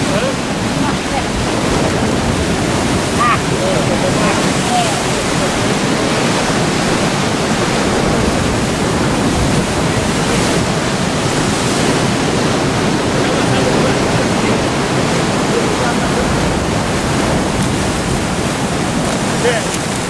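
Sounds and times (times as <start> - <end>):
sea surf rushing: 0.0 - 20.0.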